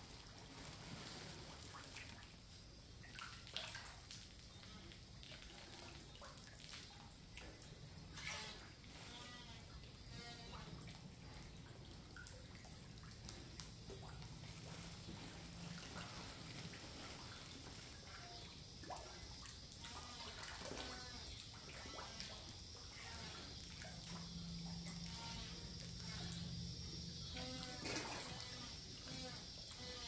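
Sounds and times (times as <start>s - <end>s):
water drips: 1.5s - 30.0s.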